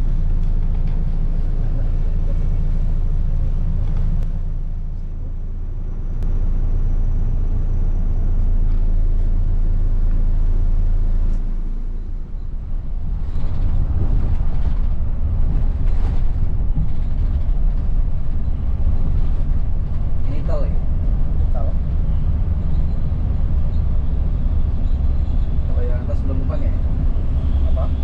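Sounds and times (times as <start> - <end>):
bus driving on highway: 0.0 - 28.0
bus engine rumbling: 0.0 - 28.0.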